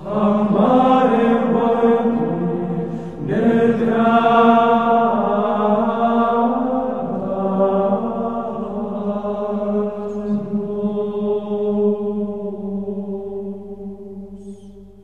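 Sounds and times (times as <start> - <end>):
voices chanting sustained notes: 0.0 - 15.0.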